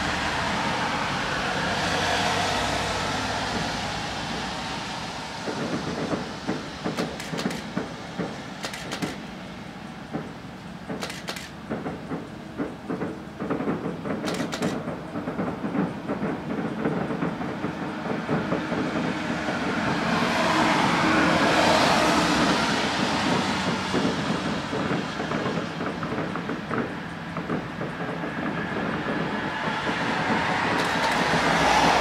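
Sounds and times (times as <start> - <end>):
continuous rumble: 0.0 - 32.0
fireworks bangs and crackles: 0.0 - 32.0.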